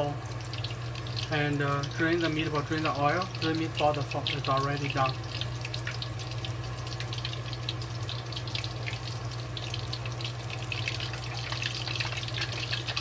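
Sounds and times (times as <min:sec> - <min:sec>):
low steady hum: 0:00.0 - 0:13.0
meatballs sizzling in oil: 0:00.0 - 0:13.0.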